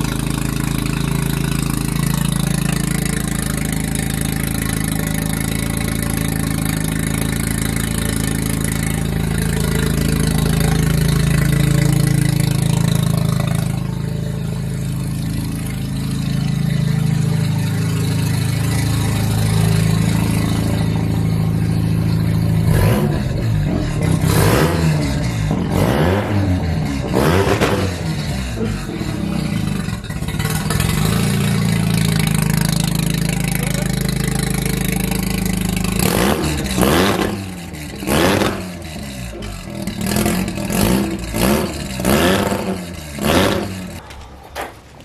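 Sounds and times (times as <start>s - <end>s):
rotary engine idling loudly: 0.0s - 44.2s.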